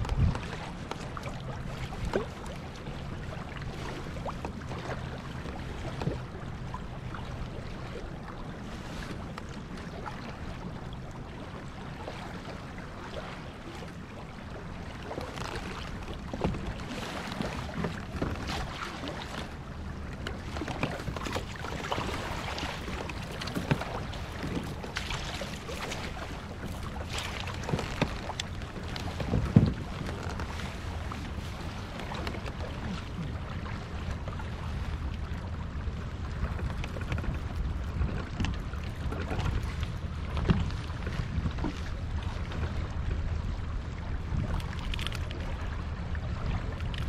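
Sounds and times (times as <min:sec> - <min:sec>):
water noise: 0:00.0 - 0:47.0
wind: 0:00.0 - 0:47.0.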